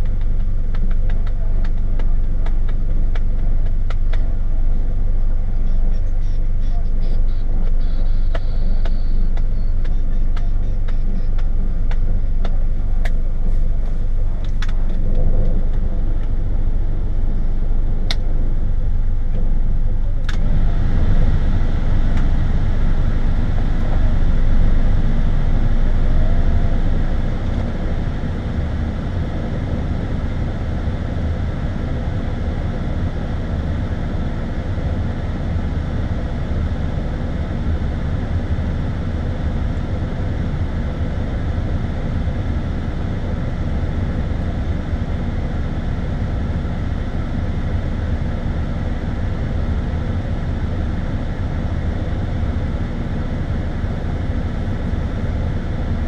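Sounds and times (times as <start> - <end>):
car engine idling: 0.0 - 56.0
ventilation fan rushing air: 0.0 - 56.0.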